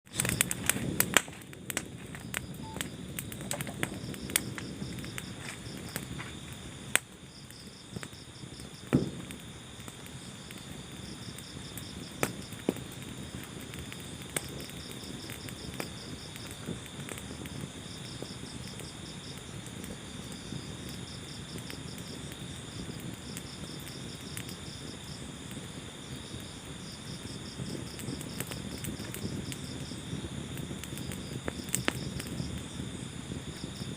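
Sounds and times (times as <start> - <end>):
insects chirping in trills: 0.1 - 33.9
low rumble of flames: 0.1 - 33.9
sharp pops of fire: 0.1 - 33.9
wood fire crackling: 0.1 - 33.9.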